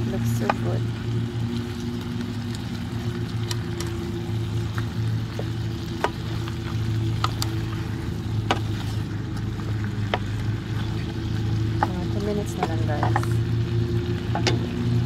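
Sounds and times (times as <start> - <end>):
steady low hum: 0.0 - 15.0
shrimp sizzling in a pan: 0.1 - 15.0.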